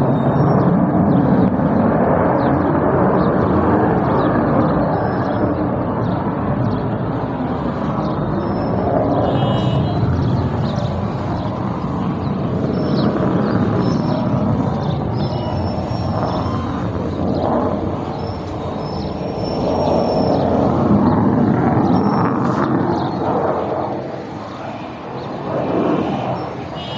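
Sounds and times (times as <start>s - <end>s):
fighter jets flying overhead: 0.0s - 26.9s.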